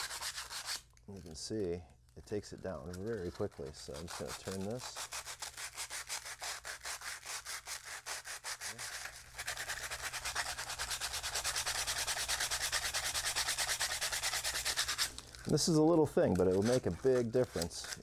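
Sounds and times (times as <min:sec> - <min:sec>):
sandpaper rubbing on wood: 0:00.0 - 0:00.8, 0:02.9 - 0:15.1, 0:15.7 - 0:18.0.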